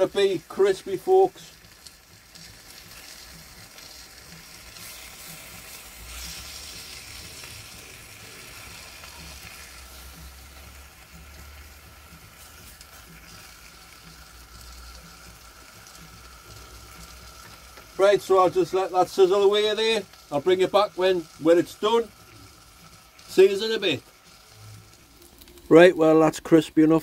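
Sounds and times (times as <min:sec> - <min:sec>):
bacon sizzling in frying pan: 0:00.0 - 0:27.0.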